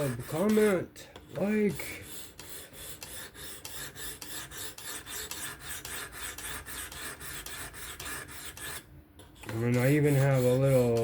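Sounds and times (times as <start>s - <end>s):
sharpening stone rasping on blade: 0.0s - 11.0s.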